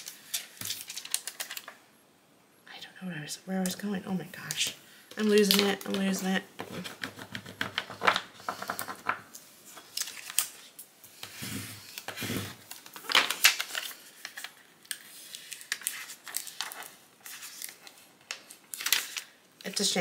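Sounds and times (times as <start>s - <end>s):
tape sheet crackling: 0.0s - 1.8s, 4.4s - 10.9s, 11.8s - 19.8s.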